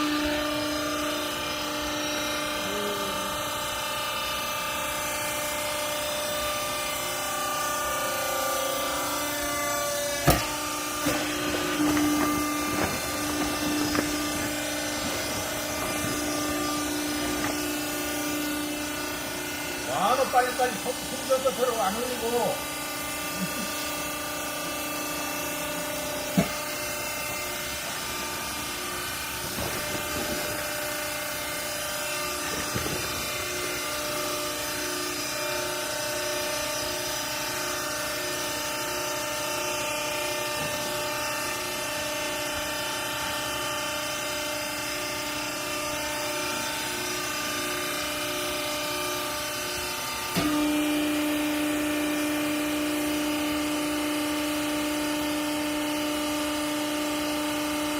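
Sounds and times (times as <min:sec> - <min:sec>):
hydraulic motor and pump humming: 0:00.0 - 0:57.9.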